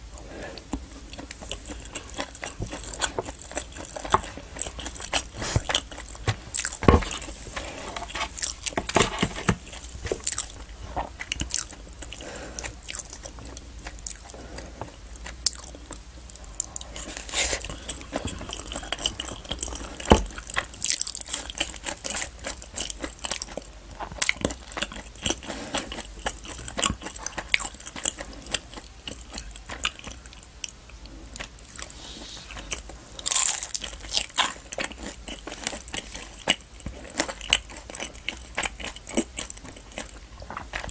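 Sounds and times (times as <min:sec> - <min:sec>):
chewing and biting food: 0:00.6 - 0:40.9.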